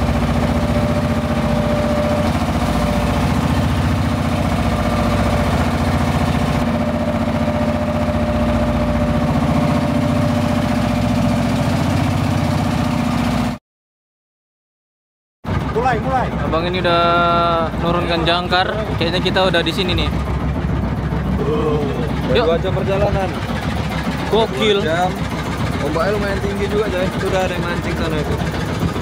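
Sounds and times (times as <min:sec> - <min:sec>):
boat engine droning: 0:00.0 - 0:13.6, 0:15.5 - 0:29.0.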